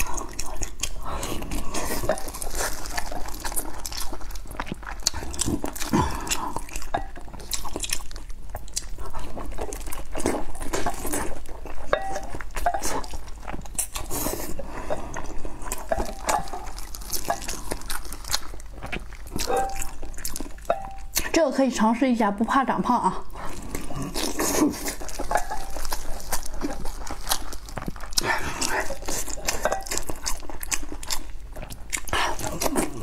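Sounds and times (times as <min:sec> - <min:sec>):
biting and chewing: 0:00.0 - 0:21.3, 0:23.3 - 0:33.0
sausage squishing in oil: 0:00.0 - 0:33.0.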